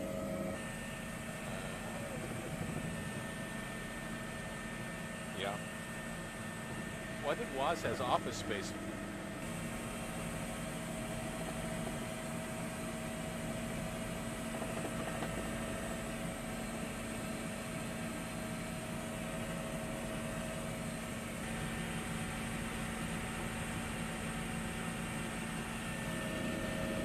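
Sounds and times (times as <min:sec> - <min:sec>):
helicopter cabin drone: 0:00.0 - 0:27.0.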